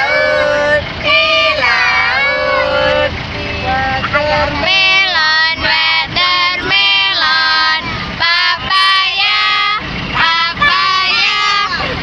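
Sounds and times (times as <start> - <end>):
children and women singing: 0.0 - 12.0.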